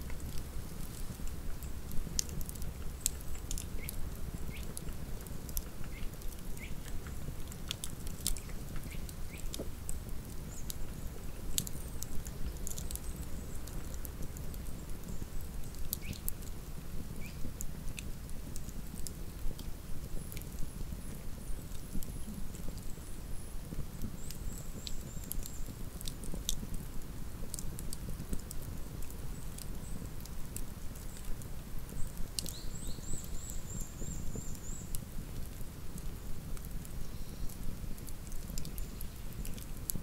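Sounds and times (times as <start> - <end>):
campfire crackling and snapping: 0.0 - 40.0
low fire rumble: 0.0 - 40.0.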